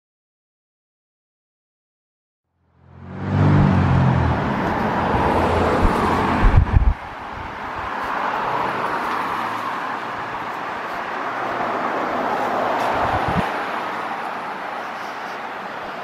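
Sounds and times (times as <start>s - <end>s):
road traffic rush: 2.5s - 16.0s.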